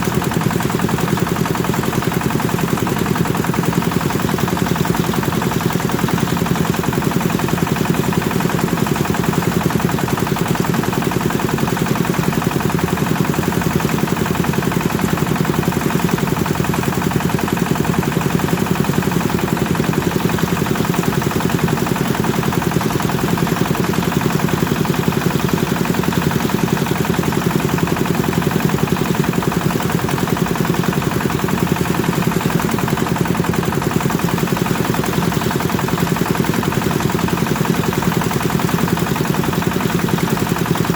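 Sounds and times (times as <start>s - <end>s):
diesel engine chugging: 0.0s - 40.9s
thresher drum turning: 0.0s - 40.9s.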